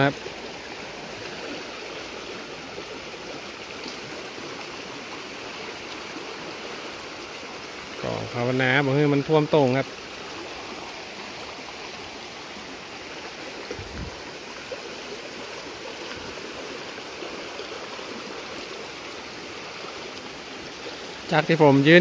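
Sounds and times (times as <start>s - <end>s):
water rushing in a stream: 0.0s - 22.0s.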